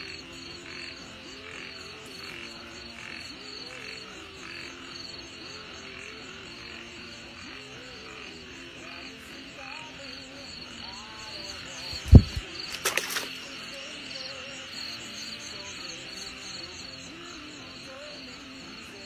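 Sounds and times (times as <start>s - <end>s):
frogs croaking in chorus: 0.0s - 19.0s
pulsing insect chorus: 0.0s - 19.0s.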